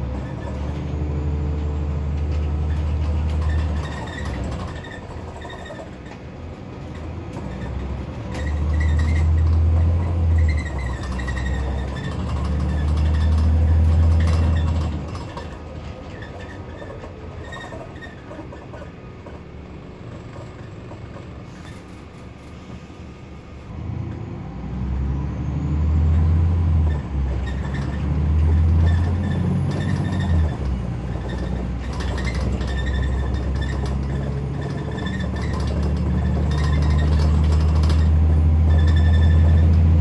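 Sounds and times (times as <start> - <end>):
bus diesel engine droning: 0.0 - 40.0
gearbox changing up: 6.9 - 22.8, 23.7 - 40.0.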